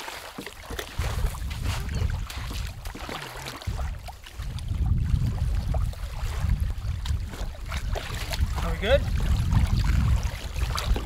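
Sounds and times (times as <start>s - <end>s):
water splashing at shore: 0.0s - 11.0s
wind buffeting microphone: 0.6s - 11.0s.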